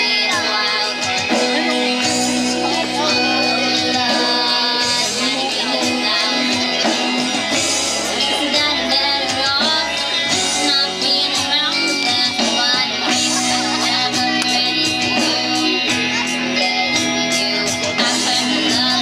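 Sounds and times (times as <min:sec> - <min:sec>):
bass guitar: 0:00.0 - 0:19.0
drums: 0:00.0 - 0:19.0
electric lead guitar: 0:00.0 - 0:19.0
girl singing: 0:00.0 - 0:19.0
twelve-string acoustic guitar: 0:00.0 - 0:19.0.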